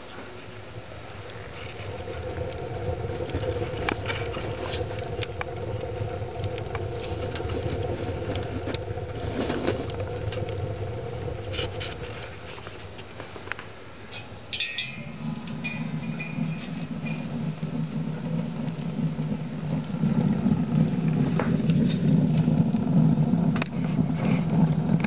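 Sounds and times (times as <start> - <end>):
fire crackling and popping: 0.0 - 25.0
stove draft rumble: 0.0 - 25.0.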